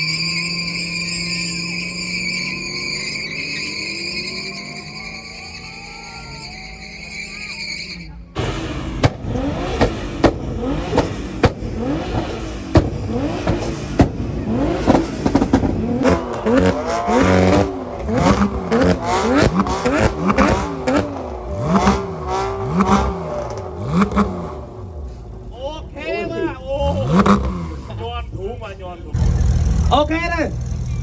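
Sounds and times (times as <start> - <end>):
car engine revving: 0.0 - 31.0
exhaust cracks: 0.0 - 31.0.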